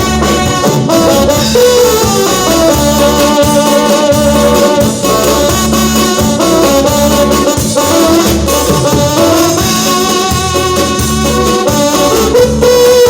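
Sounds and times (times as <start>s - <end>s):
live band playing latin dance music: 0.0s - 13.0s.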